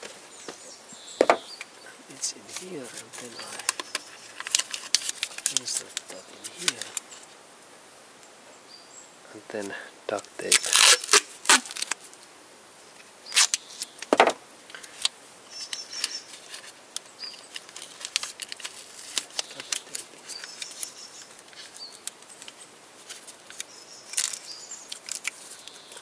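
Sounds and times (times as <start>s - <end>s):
duct tape crinkling and crackling: 0.0s - 7.4s, 10.1s - 12.3s, 12.9s - 26.0s.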